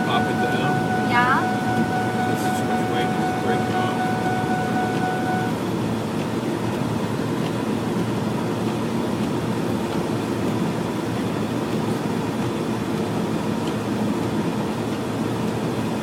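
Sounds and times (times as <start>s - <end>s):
engine and road rumble in cabin: 0.0s - 16.0s.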